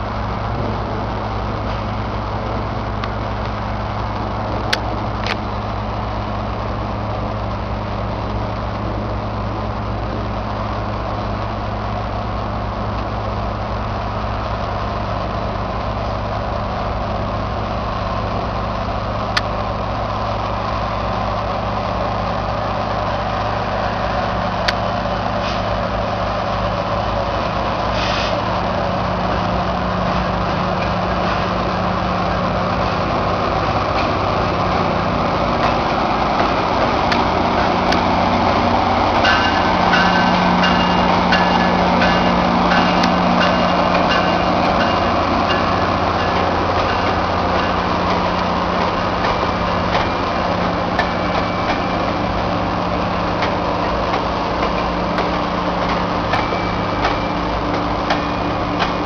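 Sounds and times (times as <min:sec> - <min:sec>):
diesel locomotive drone: 0:00.0 - 0:59.0.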